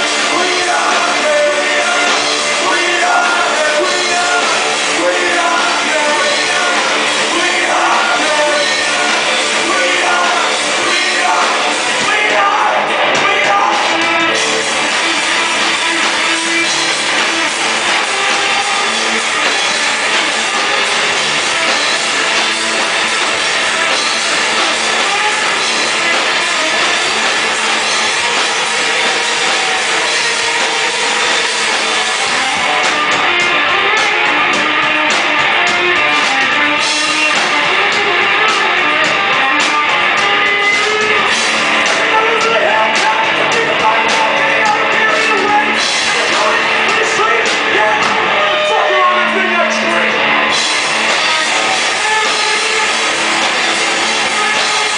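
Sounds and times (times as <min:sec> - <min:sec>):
electric guitar: 0:00.0 - 0:54.9
live rock band playing: 0:00.0 - 0:54.9
person singing: 0:00.0 - 0:54.9.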